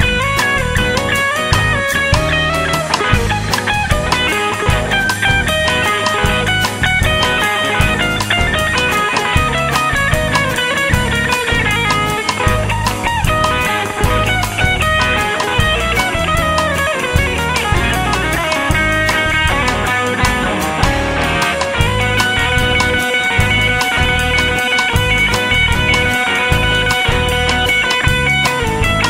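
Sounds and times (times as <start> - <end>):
rock music with guitar and drums: 0.0 - 29.0.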